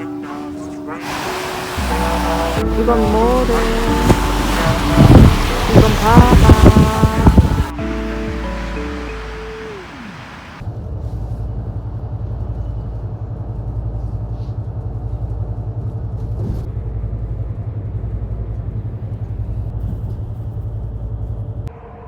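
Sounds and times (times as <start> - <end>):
road vehicle rumble: 1.1 - 21.7.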